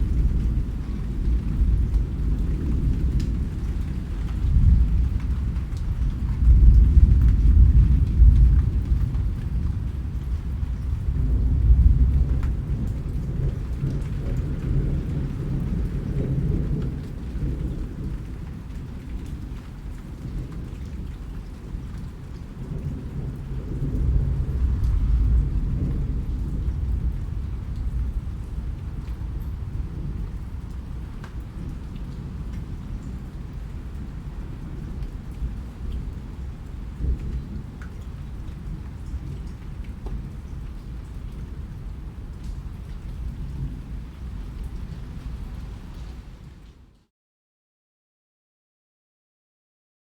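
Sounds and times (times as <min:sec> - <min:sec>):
rolling thunder: 0:00.0 - 0:20.5, 0:21.6 - 0:42.2
raindrops pattering: 0:00.0 - 0:47.0.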